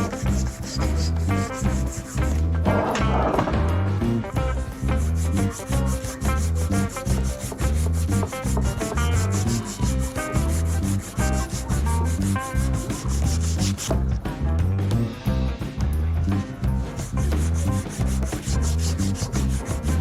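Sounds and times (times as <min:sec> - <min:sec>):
instrumental music with beat: 0:00.0 - 0:20.0.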